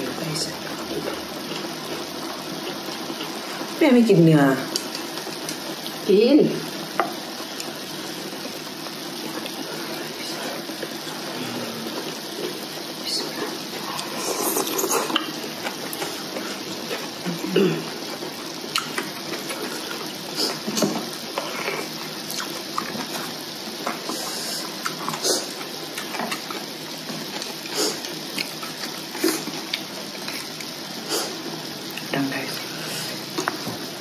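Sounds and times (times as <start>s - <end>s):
eating sounds: 0.5s - 3.8s, 7.5s - 33.7s.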